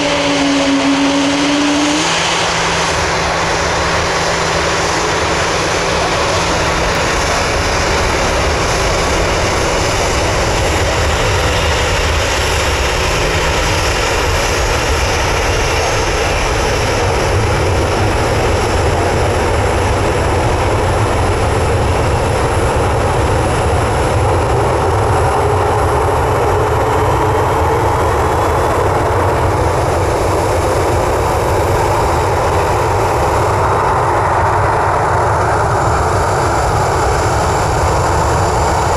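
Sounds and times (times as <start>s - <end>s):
jet engine whine and rumble: 0.0s - 38.9s.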